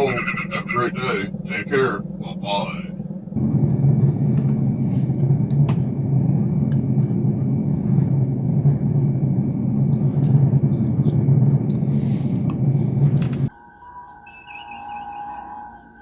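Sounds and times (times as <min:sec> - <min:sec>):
loud low rumbling drone: 0:00.0 - 0:13.5.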